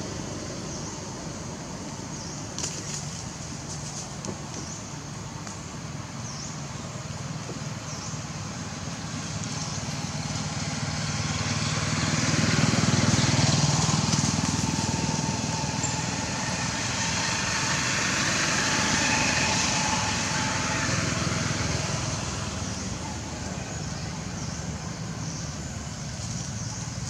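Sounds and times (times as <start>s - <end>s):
vehicle engine drone: 0.0s - 27.0s.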